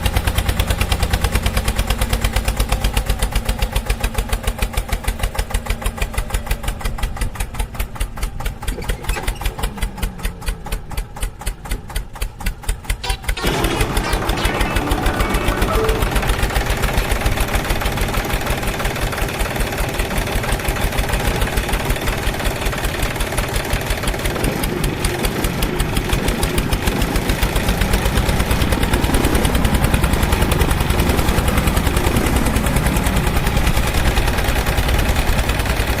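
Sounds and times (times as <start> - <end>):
small tractor engine puttering: 0.0 - 36.0.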